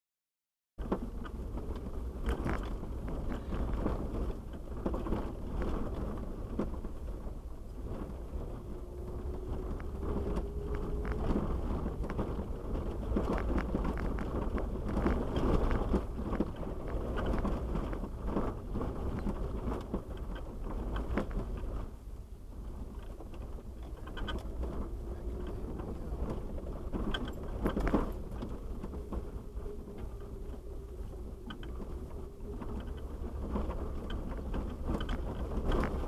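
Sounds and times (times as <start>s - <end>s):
knocks and rattles over stones: 0.8s - 21.9s, 22.8s - 36.0s
engine and tyre rumble: 0.8s - 36.0s.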